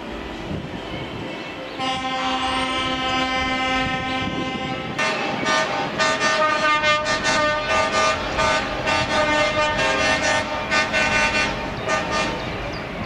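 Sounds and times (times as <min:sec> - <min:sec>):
truck air horn blasts: 0:01.8 - 0:12.4.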